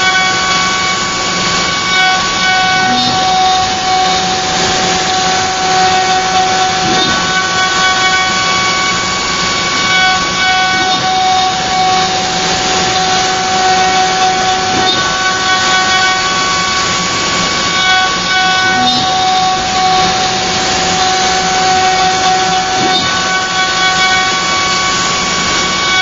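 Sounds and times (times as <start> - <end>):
wood router whining: 0.0 - 26.0.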